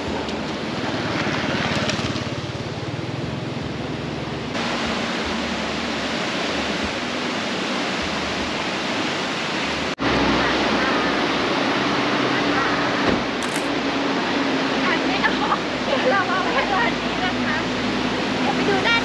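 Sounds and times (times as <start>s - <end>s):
fast-flowing river roar: 0.0s - 19.0s.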